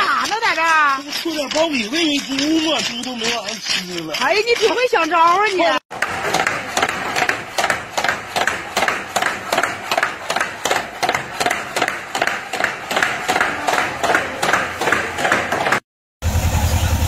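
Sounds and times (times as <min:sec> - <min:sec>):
scrubbing wet metal trough: 0:00.0 - 0:15.8.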